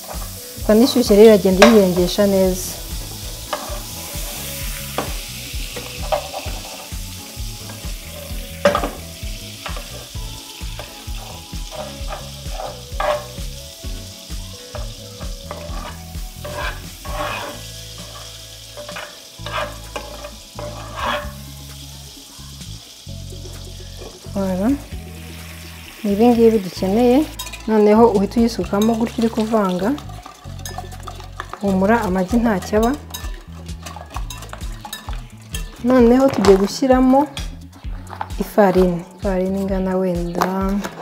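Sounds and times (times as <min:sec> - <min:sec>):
spoon scraping pan: 0:00.0 - 0:21.6, 0:25.9 - 0:39.7
margarine sizzling in pan: 0:00.0 - 0:41.0.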